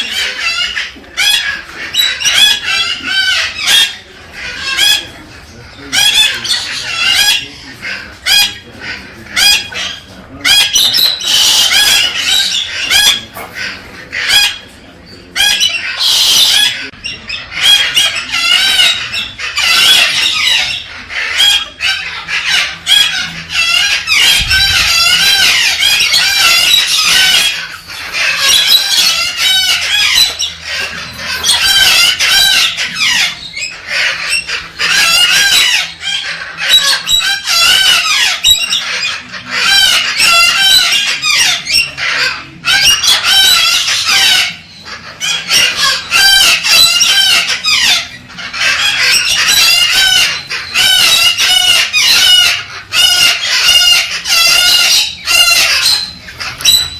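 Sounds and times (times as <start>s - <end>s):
cockatoo screeching warbles: 0.0s - 56.9s.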